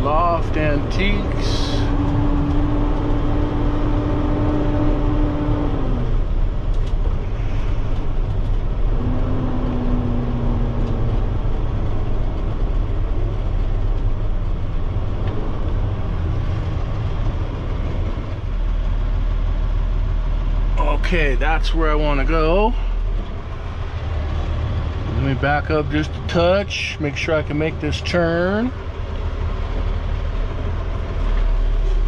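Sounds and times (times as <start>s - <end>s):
truck diesel engine rumbling: 0.0s - 32.0s.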